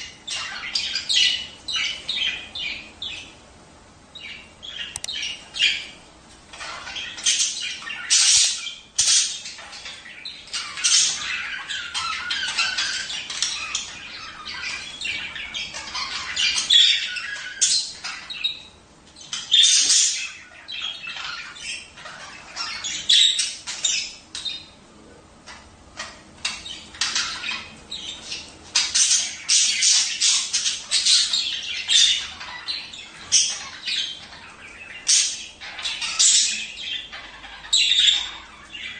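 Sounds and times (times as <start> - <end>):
budgerigars chattering and squawking: 0.0 - 3.4, 4.2 - 24.8, 25.4 - 38.9.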